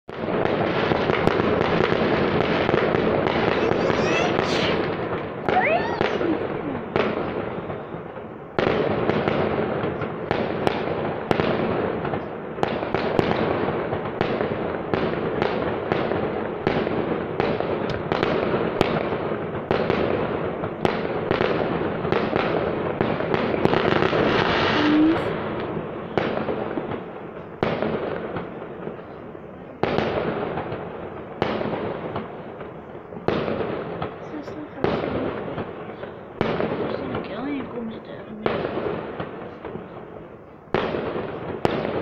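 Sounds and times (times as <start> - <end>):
fireworks bangs echoing: 0.1 - 42.0.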